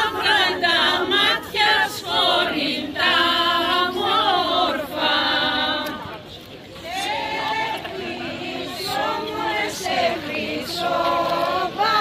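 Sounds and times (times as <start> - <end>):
group singing unaccompanied folk song: 0.0 - 12.0.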